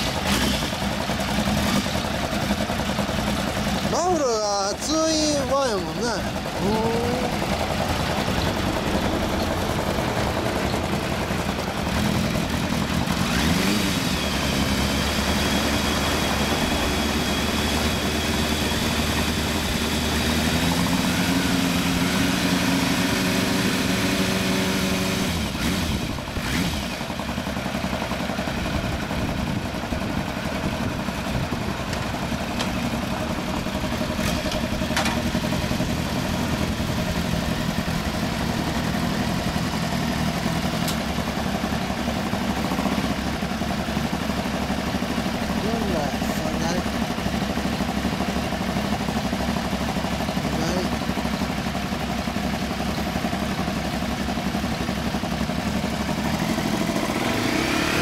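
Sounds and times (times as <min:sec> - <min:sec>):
motorcycle engine rev: 0:00.0 - 0:58.0
motorcycle engines idling: 0:00.0 - 0:58.0.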